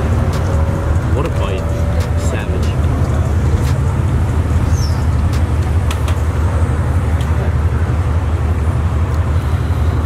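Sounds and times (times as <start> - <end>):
low rumble of road traffic: 0.0 - 10.0.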